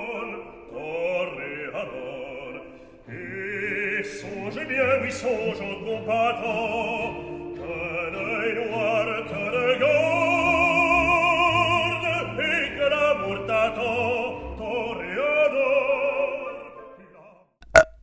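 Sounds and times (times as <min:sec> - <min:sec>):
operatic singing with vibrato: 0:00.0 - 0:17.2.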